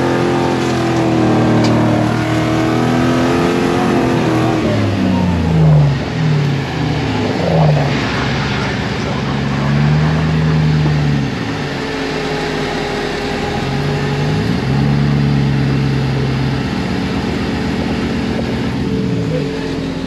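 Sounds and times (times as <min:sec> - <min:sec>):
buggy engine running under load: 0:00.0 - 0:20.0
steady background noise: 0:00.0 - 0:20.0.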